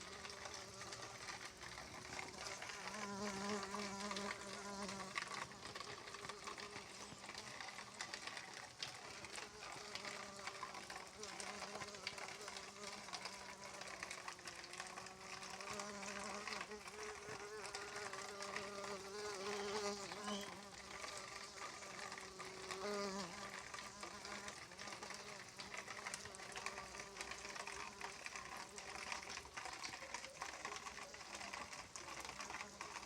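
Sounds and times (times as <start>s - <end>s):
bumblebee buzzing: 0.0s - 29.1s.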